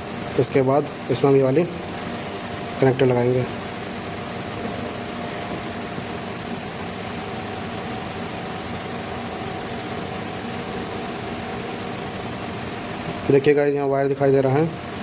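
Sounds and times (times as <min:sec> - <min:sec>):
cooling fan whirring: 0:00.0 - 0:15.0.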